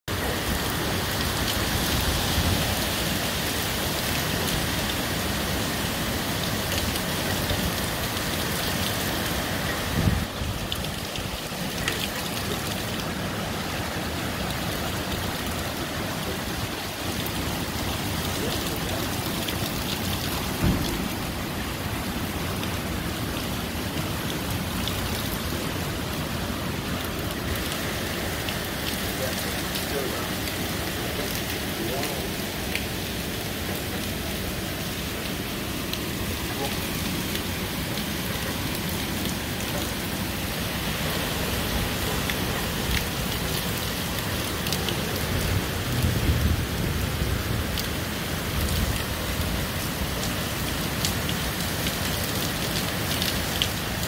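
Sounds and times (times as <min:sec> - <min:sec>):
heavy rain on pavement and trees: 0:00.0 - 0:54.0.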